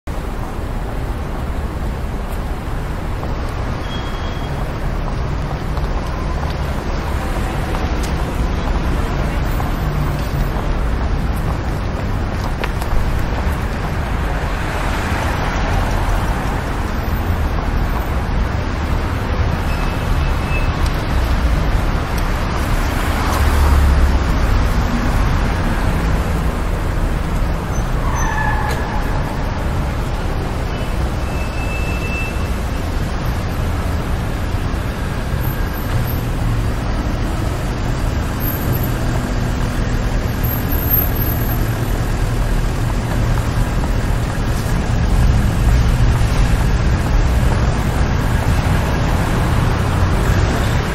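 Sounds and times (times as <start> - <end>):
road traffic passing: 0.1 - 50.9.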